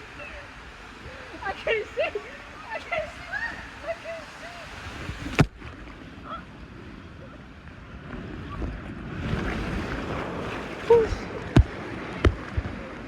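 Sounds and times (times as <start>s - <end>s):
rushing splashing water: 0.0s - 13.0s
wind buffeting microphone: 0.0s - 13.0s.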